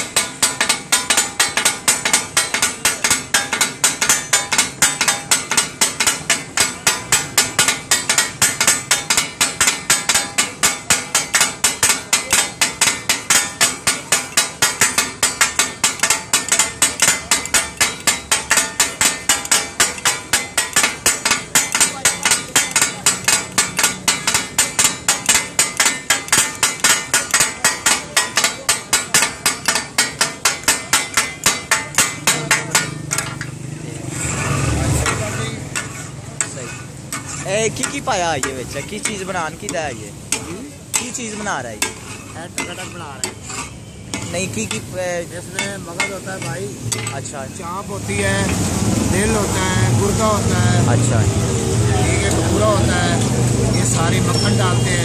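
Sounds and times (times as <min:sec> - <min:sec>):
metal spatulas clacking on griddle: 0:00.0 - 0:47.4, 0:52.2 - 0:55.0.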